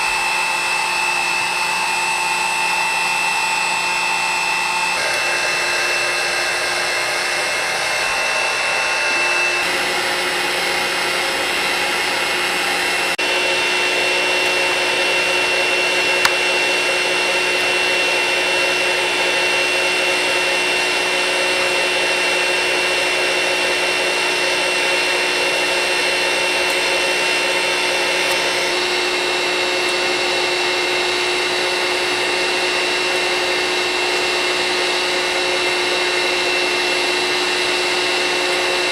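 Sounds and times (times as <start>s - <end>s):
heat gun blower and whine: 0.0s - 38.9s.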